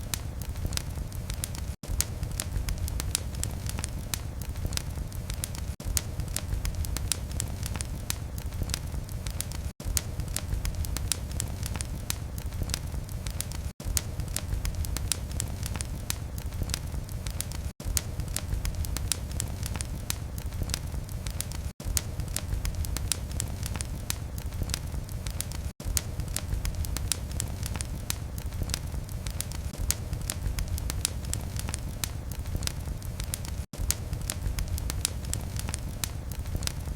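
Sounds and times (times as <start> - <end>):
low rumble of flames: 0.0 - 36.9
wood fire crackling: 0.0 - 36.9.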